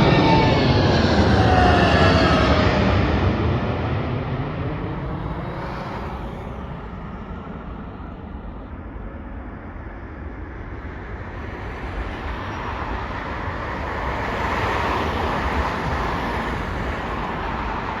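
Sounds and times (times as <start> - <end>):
jet engine roar at takeoff: 0.0 - 18.0.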